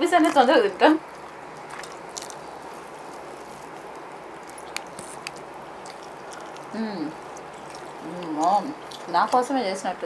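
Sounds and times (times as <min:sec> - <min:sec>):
steady background hiss: 0:00.0 - 0:10.0
chewing clicks and smacks: 0:01.1 - 0:09.5.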